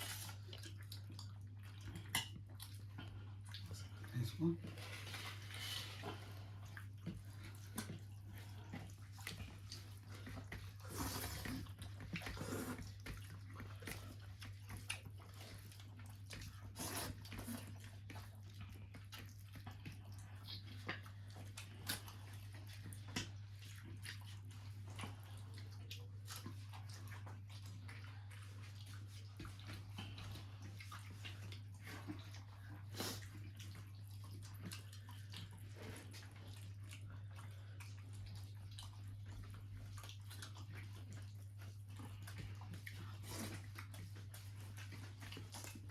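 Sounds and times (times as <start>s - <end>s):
soft wet squishing of food: 0.0s - 45.9s.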